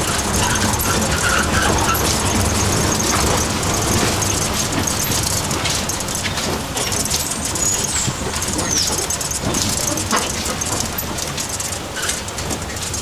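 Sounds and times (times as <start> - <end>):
bus driving rumble: 0.0 - 13.0
wind noise: 0.0 - 13.0.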